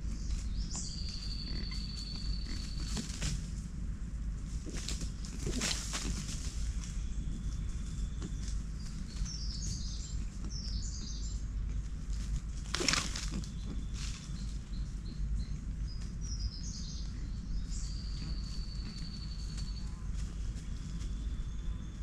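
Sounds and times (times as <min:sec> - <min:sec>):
birds chirping: 0:00.0 - 0:03.7, 0:04.6 - 0:22.0
constant low rumble: 0:00.0 - 0:22.0.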